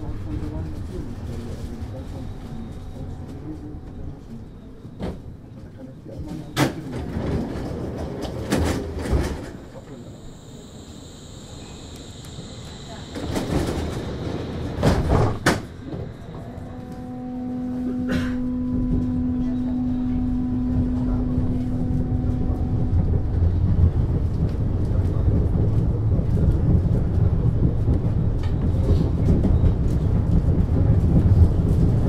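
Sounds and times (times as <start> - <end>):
steady humming tone: 0.0 - 5.6, 8.6 - 32.0
railway car rumble: 0.0 - 32.0.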